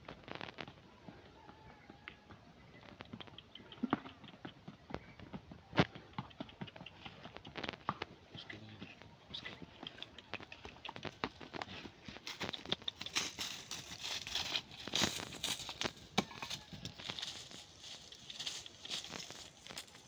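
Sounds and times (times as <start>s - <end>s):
horse hooves on dirt track: 0.0s - 20.0s.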